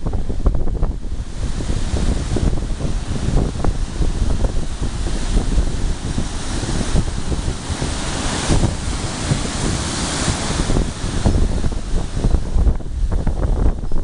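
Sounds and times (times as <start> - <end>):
waves washing onto shore: 0.0 - 14.0
wind buffeting microphone: 0.0 - 14.0.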